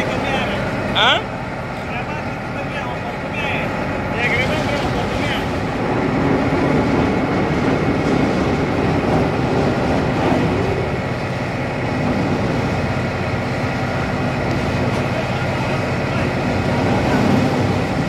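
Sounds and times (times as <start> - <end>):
crane machinery running: 0.0 - 18.0.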